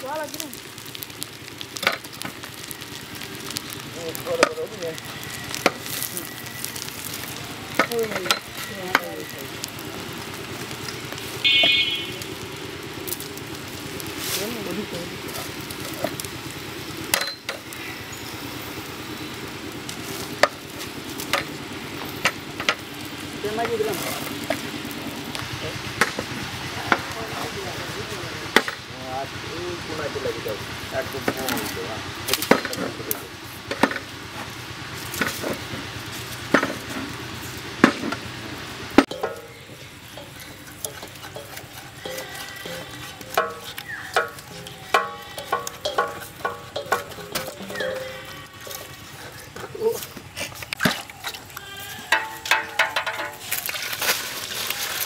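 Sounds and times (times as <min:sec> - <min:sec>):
wood fire burning: 0:00.0 - 0:55.0.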